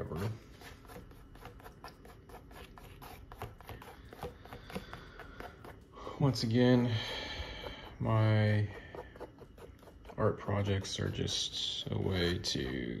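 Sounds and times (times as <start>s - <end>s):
straw scraping paint on canvas: 0.0s - 6.6s, 7.6s - 13.0s.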